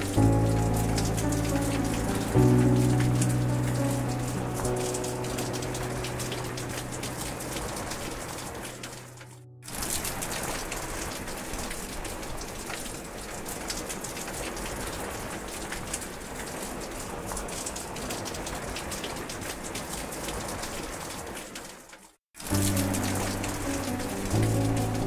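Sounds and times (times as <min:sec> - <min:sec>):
rain falling on puddle water: 0:00.0 - 0:25.0.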